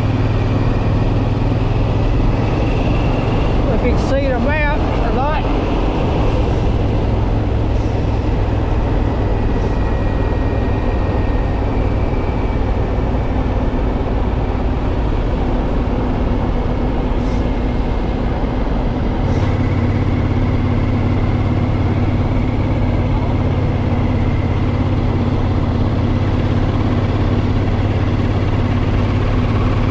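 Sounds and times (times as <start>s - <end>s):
motorcycle engine running: 0.0s - 29.9s
wind noise: 0.0s - 29.9s.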